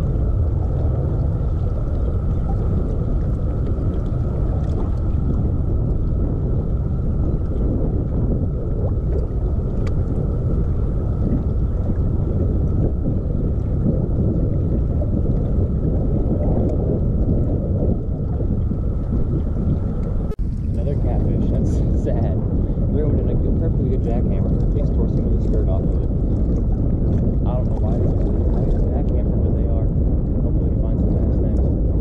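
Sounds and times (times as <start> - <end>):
rumble of water and wind: 0.0 - 32.0.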